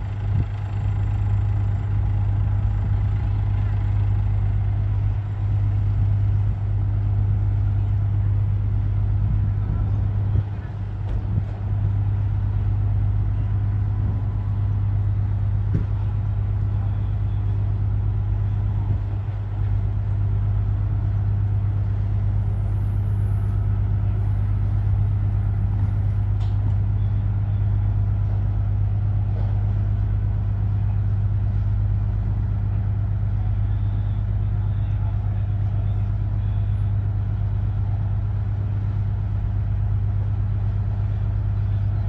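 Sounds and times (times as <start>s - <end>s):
large engine idling: 0.0s - 42.0s.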